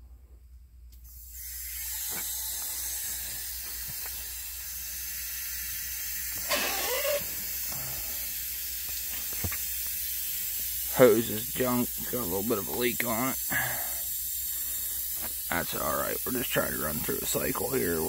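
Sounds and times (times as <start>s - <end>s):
spray from leaking hose: 1.0s - 18.0s
water rushing from hose: 1.4s - 18.0s.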